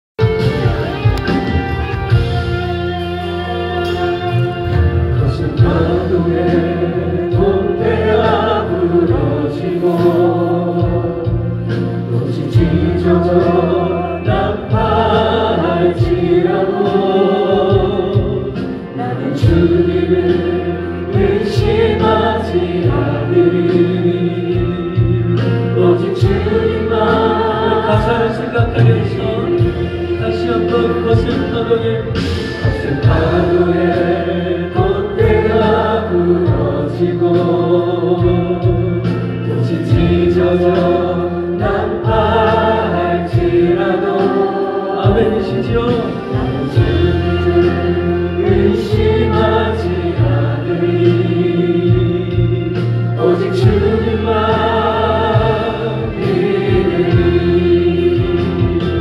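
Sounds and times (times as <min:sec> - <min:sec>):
instrumental accompaniment with bass: 0:00.2 - 0:59.0
choir singing a hymn: 0:02.0 - 0:59.0.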